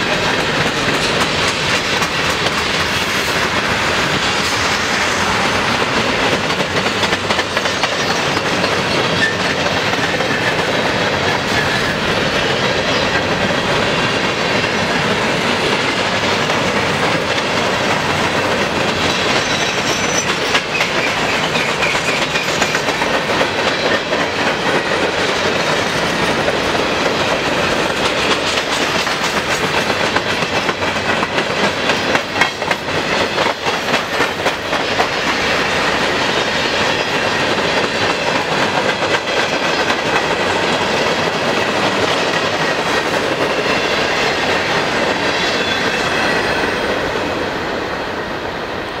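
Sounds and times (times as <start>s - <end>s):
train wheels rumbling on rail: 0.0s - 49.0s
wheels clicking over rail joints: 5.6s - 45.8s.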